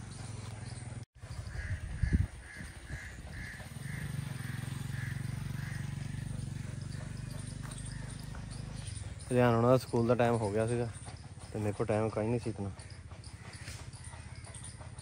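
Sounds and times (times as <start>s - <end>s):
bird calling: 0.0s - 15.0s
motorcycle engine hum: 0.0s - 15.0s.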